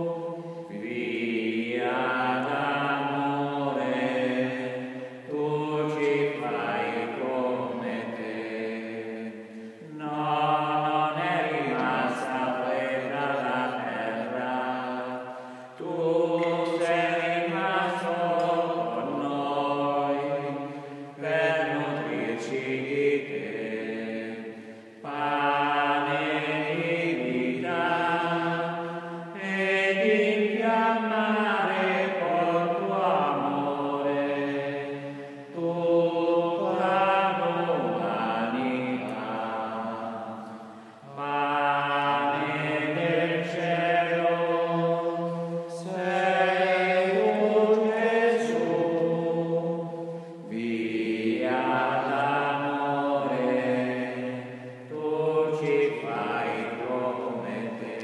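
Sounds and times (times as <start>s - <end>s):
choir chanting: 0.0s - 58.0s.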